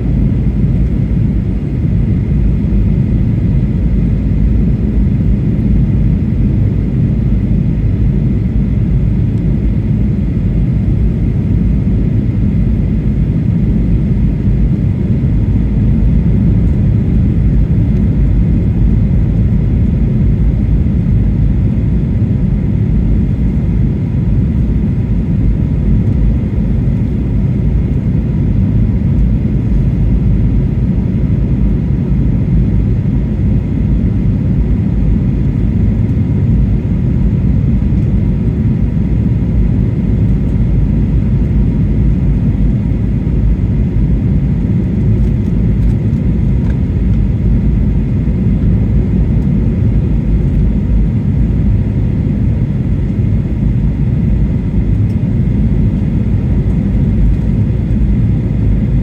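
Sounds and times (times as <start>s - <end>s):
aircraft cabin engine rumble: 0.0s - 59.0s
faint steady whine: 0.0s - 59.0s.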